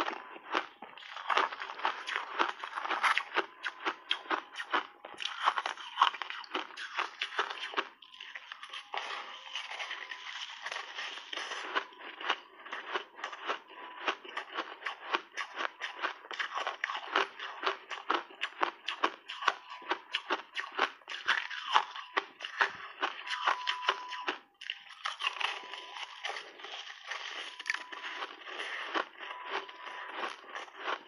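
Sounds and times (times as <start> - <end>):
crunching of ice being chewed: 0.0 - 31.0.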